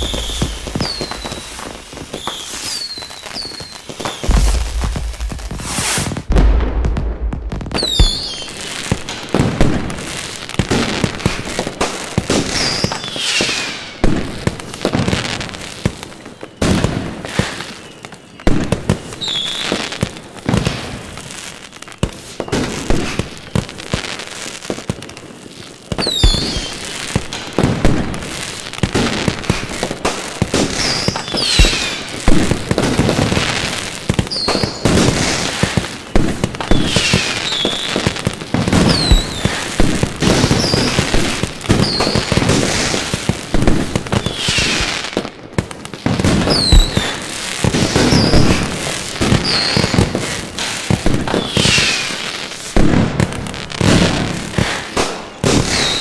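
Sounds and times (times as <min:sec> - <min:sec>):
deep fireworks booms: 0:00.0 - 0:15.6, 0:25.9 - 0:56.0
falling firework whistles: 0:00.0 - 0:45.2, 0:46.0 - 0:56.0
fireworks bangs and crackling: 0:00.0 - 0:56.0.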